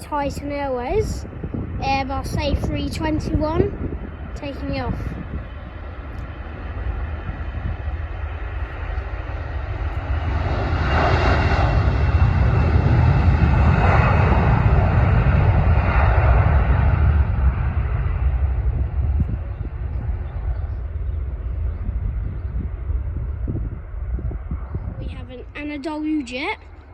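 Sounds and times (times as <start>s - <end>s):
jet engines at takeoff: 0.0s - 26.9s.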